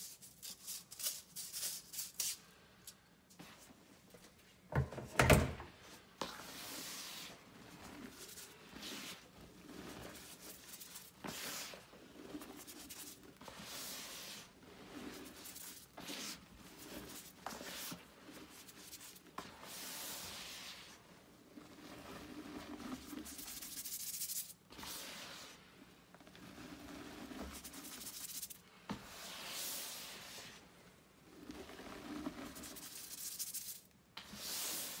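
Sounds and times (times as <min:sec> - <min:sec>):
hands swishing through powdered chalk: 0:00.0 - 0:02.6, 0:05.8 - 0:35.0.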